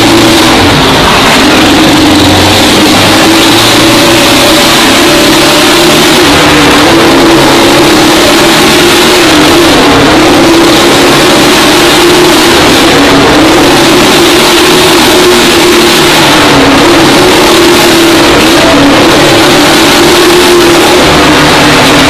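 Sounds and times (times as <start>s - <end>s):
motorcycle engine running hard: 0.0s - 22.0s.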